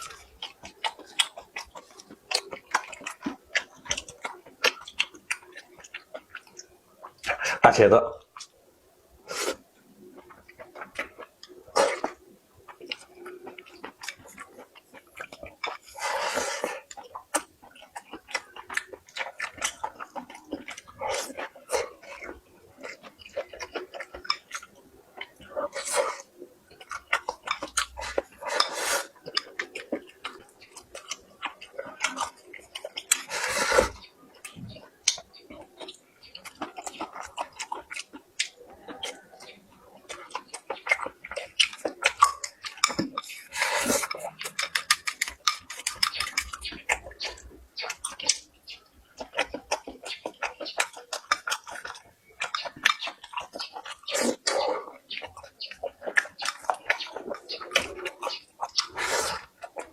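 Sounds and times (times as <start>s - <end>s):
chewing clicks and smacks: 0.0s - 7.6s, 8.2s - 8.6s, 9.8s - 59.9s.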